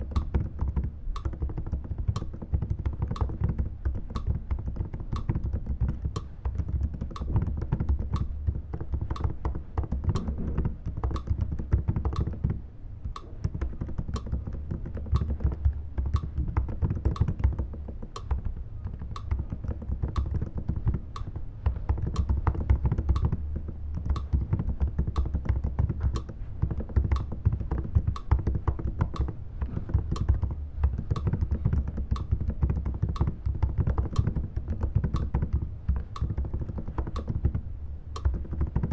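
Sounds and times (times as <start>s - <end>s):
typing on a keyboard: 0.0s - 38.9s.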